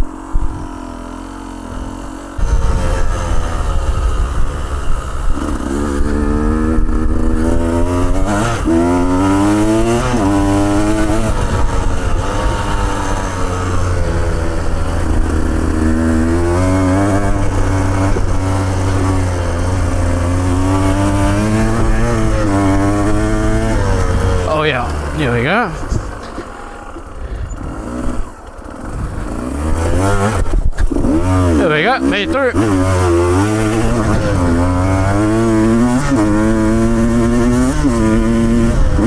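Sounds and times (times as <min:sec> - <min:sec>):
two-stroke motorcycle engine revving: 0:00.0 - 0:39.0.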